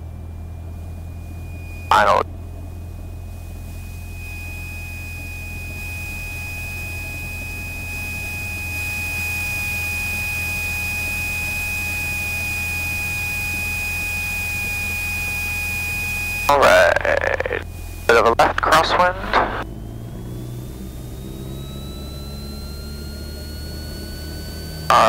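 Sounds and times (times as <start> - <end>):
aircraft engine and propeller: 0.0 - 25.0
steady high whine: 0.0 - 25.0.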